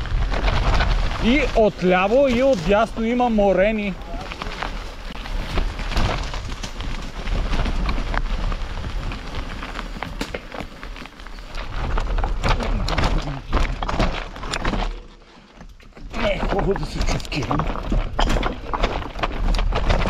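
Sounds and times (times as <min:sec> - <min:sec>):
bike rattling over rocks: 0:00.0 - 0:20.0.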